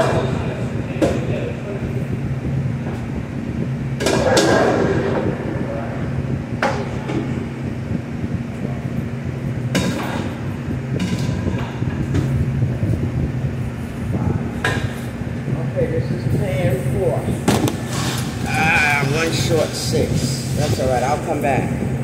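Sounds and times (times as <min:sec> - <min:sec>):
exhaust hood hum: 0:00.0 - 0:22.0.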